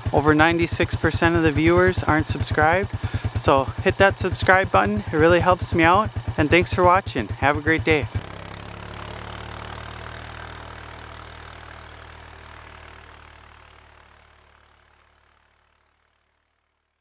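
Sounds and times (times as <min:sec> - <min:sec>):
atv engine idling: 0:00.0 - 0:16.7.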